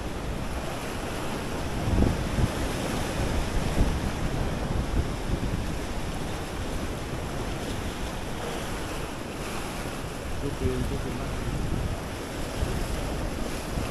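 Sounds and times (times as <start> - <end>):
surf washing on a beach: 0.0 - 13.9
wind buffeting the microphone: 0.0 - 13.9.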